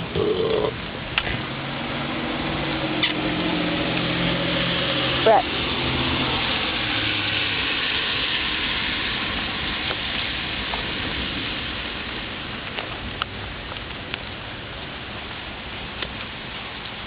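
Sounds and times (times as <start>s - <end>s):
sharp water drips: 0.0s - 17.0s
steady rain falling: 0.0s - 17.0s.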